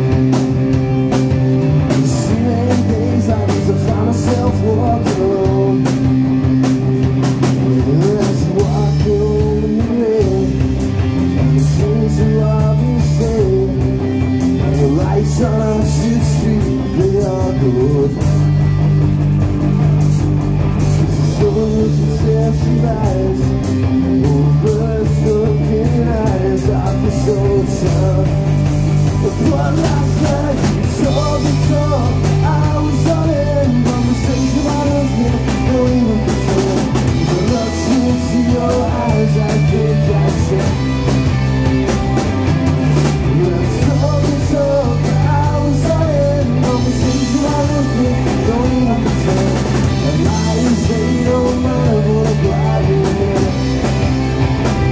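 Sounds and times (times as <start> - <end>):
bass line: 0.0 - 54.9
rock band playing live: 0.0 - 54.9
person singing: 1.9 - 6.5, 7.6 - 10.8, 11.5 - 18.5, 21.0 - 41.5, 43.2 - 54.0.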